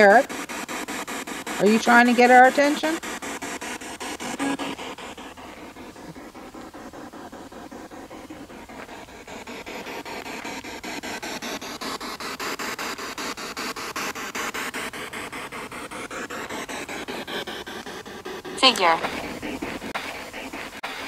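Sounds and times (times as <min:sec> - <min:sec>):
radio static sweeping stations: 0:00.0 - 0:21.0.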